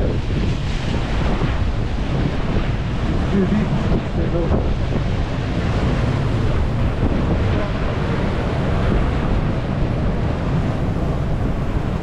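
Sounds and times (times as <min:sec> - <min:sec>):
boat rushing through water: 0:00.0 - 0:12.0
wind buffeting microphone: 0:00.0 - 0:12.0.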